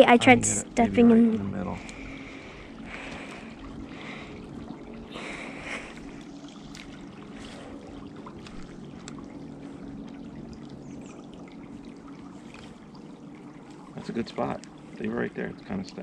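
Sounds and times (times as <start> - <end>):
small stream flowing: 0.0 - 16.0.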